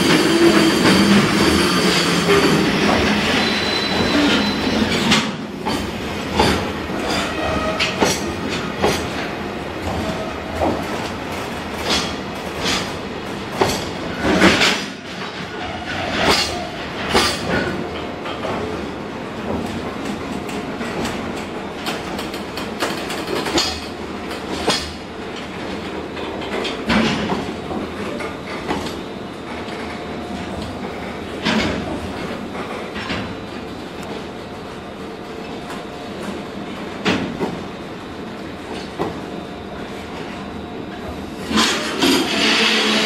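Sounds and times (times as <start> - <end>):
train rumbling in motion: 0.0 - 43.0.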